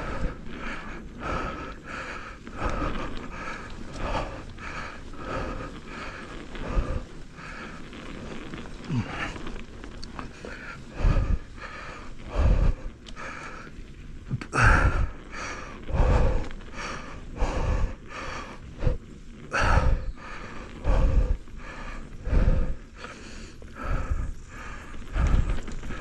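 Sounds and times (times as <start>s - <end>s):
heavy rhythmic breathing: 0.0s - 26.0s.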